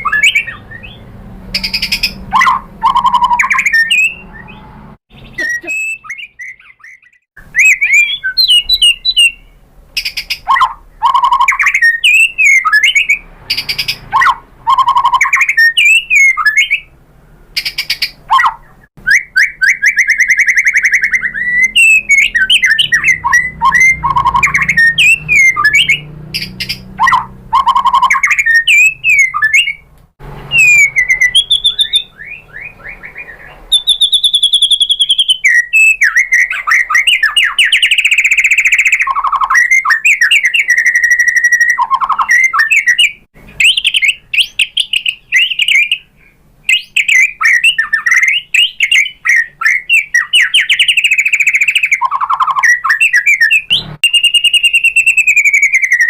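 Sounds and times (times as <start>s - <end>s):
bird singing whistles and trills: 0.0s - 16.9s, 17.6s - 29.9s, 30.5s - 56.0s.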